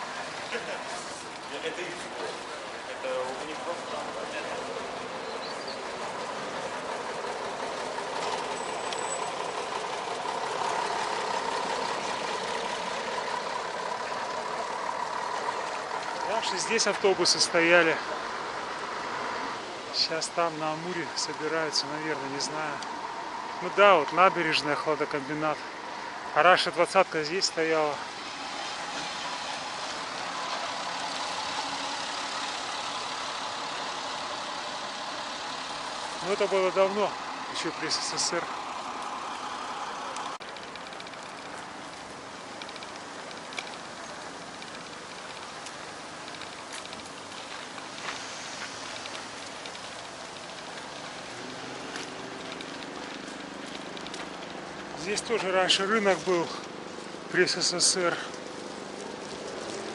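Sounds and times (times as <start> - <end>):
traffic hiss: 0.0 - 59.9
vehicle engine and road noise: 0.0 - 59.9.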